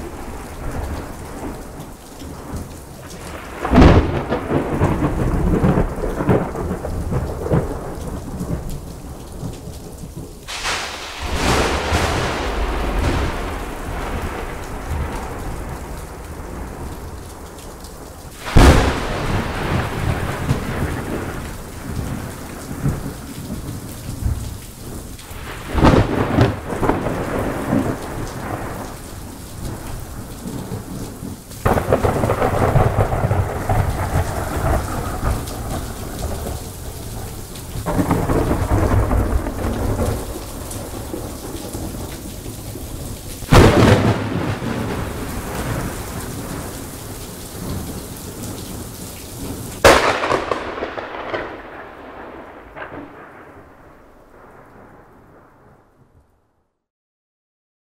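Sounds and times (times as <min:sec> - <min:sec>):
rolling thunder rumbles: 0:00.0 - 0:55.9
steady rain: 0:00.0 - 0:56.4
sharp thunderclap: 0:03.3 - 0:08.8, 0:10.5 - 0:17.5, 0:18.3 - 0:47.0, 0:49.8 - 0:55.5.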